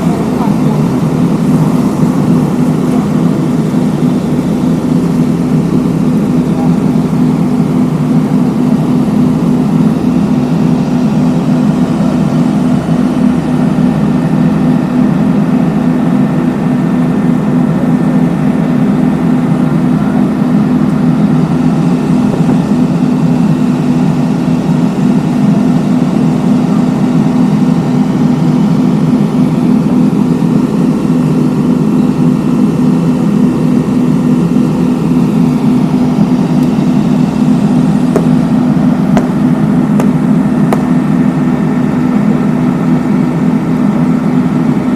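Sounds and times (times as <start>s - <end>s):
heavy machine engine droning: 0.0s - 44.9s.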